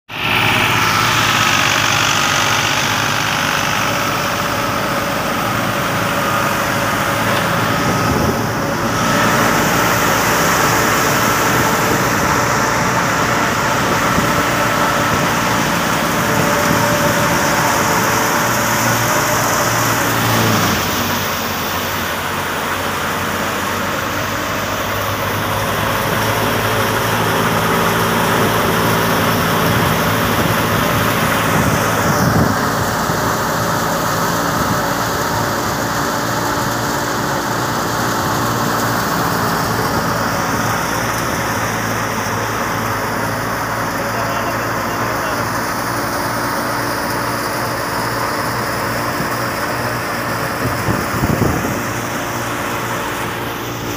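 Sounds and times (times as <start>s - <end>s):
tractor engine running: 0.1s - 53.9s.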